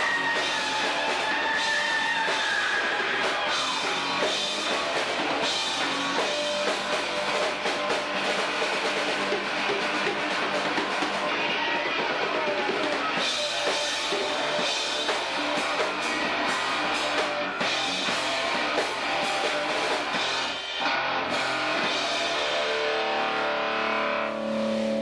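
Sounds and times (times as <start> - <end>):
drum kit: 0.0 - 25.0
rock band playing live: 0.0 - 25.0.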